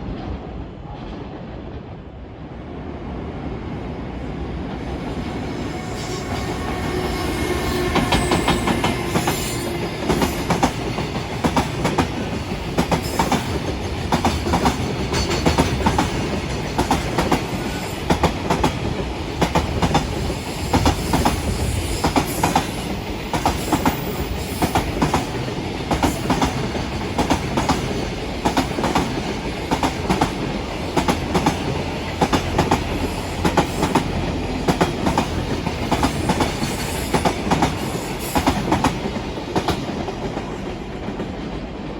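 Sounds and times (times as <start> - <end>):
train rumble: 0.0 - 41.9
train wheels clattering over rail joints: 7.7 - 41.3.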